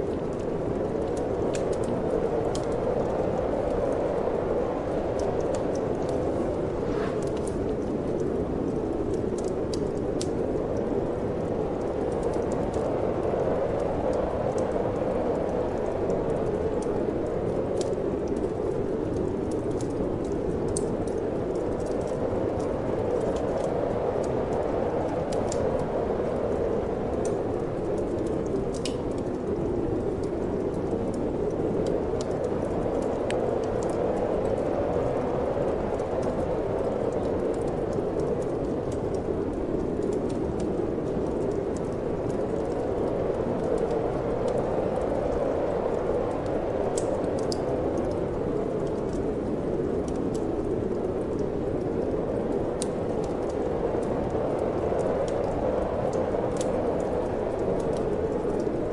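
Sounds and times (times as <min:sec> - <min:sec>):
steady wind: 0:00.0 - 0:58.9
wood fire crackling: 0:00.0 - 0:58.9.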